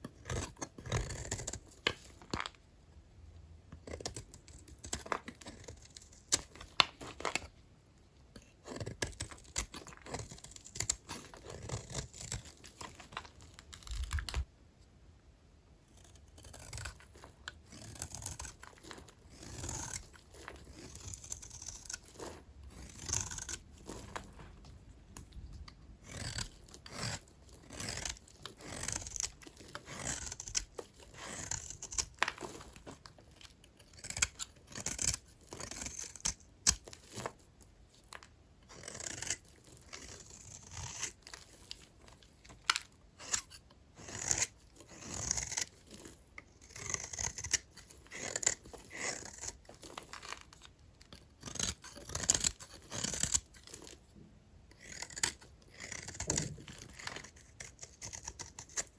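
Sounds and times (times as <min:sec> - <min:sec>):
blade scraping soap: 0:00.0 - 0:02.6, 0:03.8 - 0:07.6, 0:08.3 - 0:14.5, 0:15.9 - 0:58.9.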